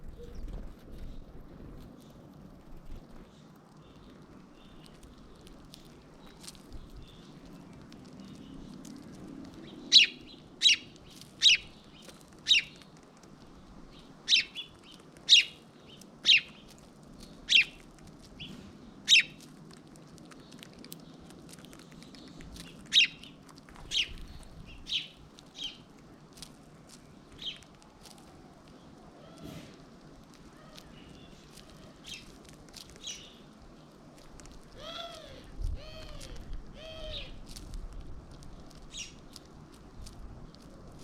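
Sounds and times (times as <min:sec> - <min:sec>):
small bird chirping: 0:00.0 - 0:41.0.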